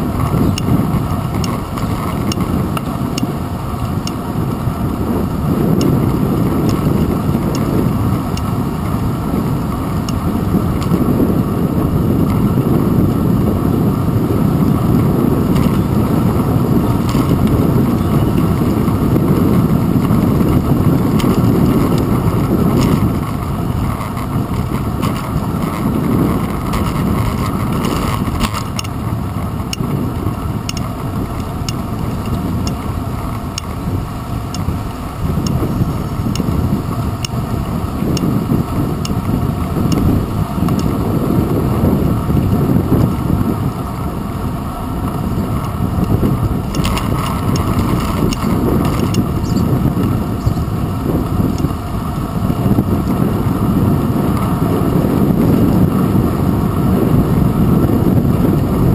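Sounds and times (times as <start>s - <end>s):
low rumble of wind: 0.0s - 58.9s
road vibration rumble: 0.0s - 58.9s.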